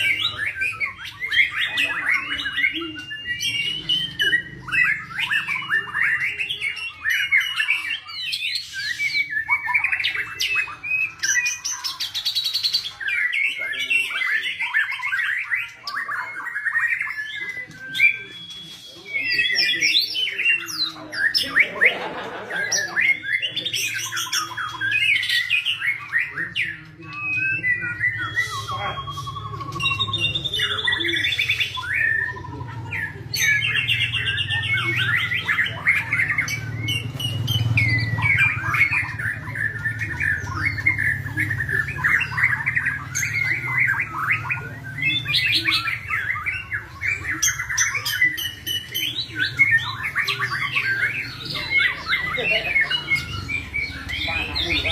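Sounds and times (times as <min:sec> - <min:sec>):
bird singing: 0:00.0 - 0:54.9.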